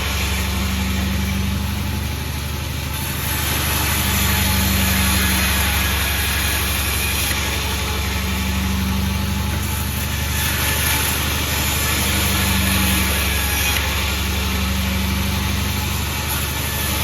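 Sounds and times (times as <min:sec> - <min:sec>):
machinery hiss: 0:00.0 - 0:17.0
sawmill machinery humming: 0:00.0 - 0:17.0.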